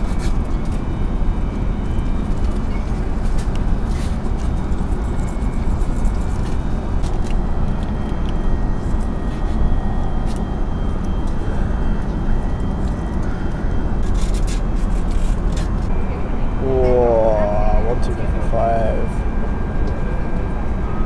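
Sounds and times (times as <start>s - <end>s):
airliner cabin noise: 0.0s - 21.0s.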